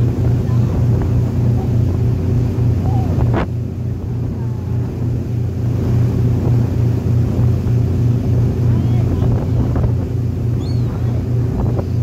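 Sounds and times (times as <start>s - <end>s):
ferry engine droning: 0.0s - 12.0s
wind buffeting microphone: 0.0s - 12.0s.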